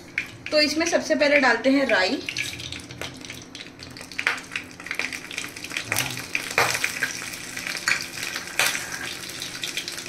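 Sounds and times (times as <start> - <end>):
mustard seeds popping in oil: 0.0 - 10.0
oil sizzling: 0.0 - 10.0.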